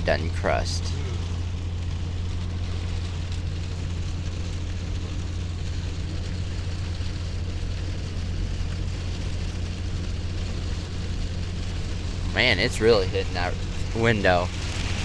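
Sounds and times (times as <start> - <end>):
engine and road rumble: 0.0 - 15.0
hard rain hitting windshield: 0.0 - 15.0.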